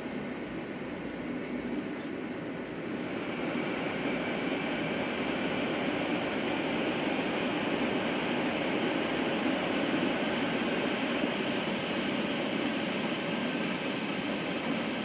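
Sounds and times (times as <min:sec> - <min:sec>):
train rail and wheel noise: 0:00.0 - 0:15.0.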